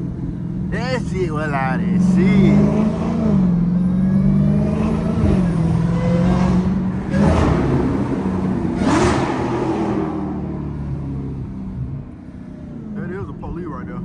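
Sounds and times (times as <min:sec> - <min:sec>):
car engine running at low speed: 0:00.0 - 0:14.0.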